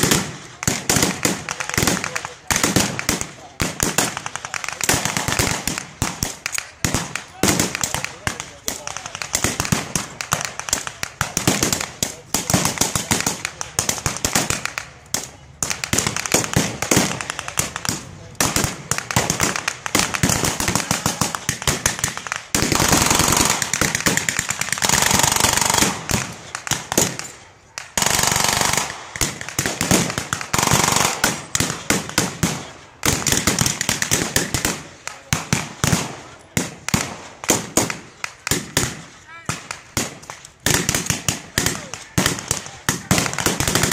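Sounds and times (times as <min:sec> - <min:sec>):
blank gunfire volleys: 0:00.0 - 0:43.9.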